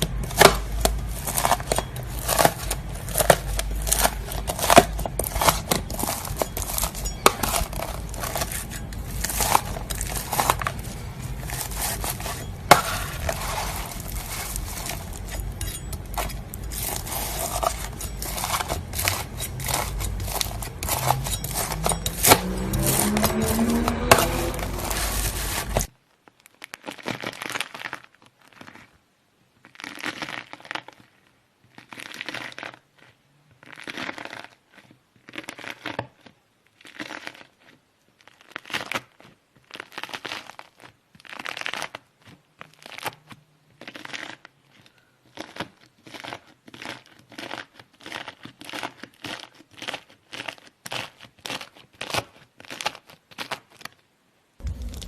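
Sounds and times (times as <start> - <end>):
knife crunching through slime: 0.0 - 25.9, 29.7 - 31.1, 31.7 - 54.0, 54.6 - 55.0.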